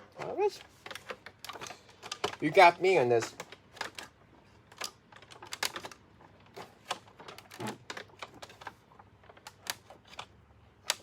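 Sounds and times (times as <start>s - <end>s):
plastic parts clicking and knocking: 0.0s - 11.0s.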